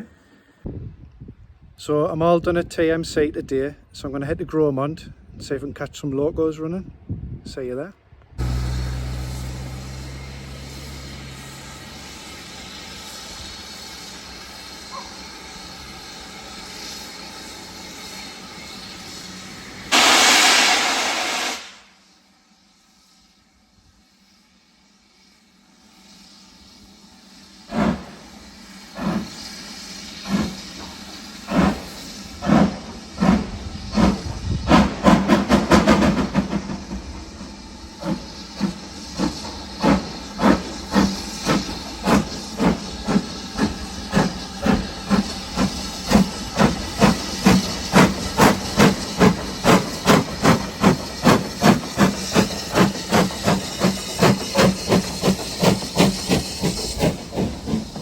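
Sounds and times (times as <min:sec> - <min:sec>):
steam hissing: 0:08.4 - 0:58.0
steam locomotive exhaust chuffs: 0:08.4 - 0:58.0.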